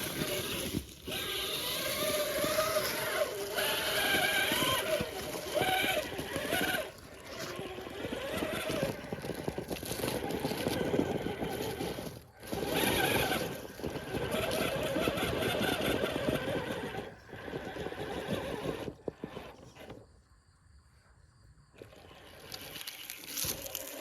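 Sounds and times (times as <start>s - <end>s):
rc car motor whining: 0.0s - 20.2s, 21.7s - 24.0s.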